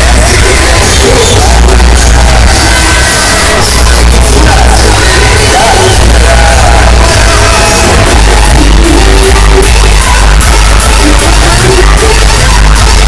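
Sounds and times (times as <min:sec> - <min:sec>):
music with heavy bass: 0:00.0 - 0:13.0
person singing: 0:00.0 - 0:13.0.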